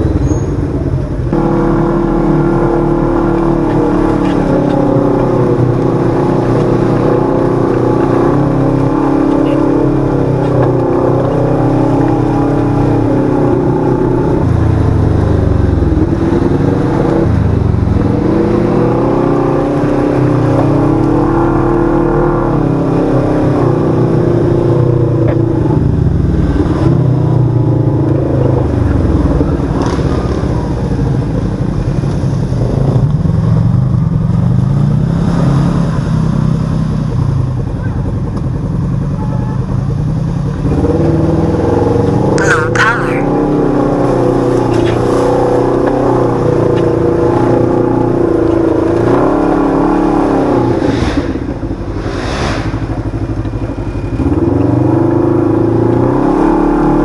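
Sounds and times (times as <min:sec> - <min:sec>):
engine revving: 0:01.1 - 0:57.0.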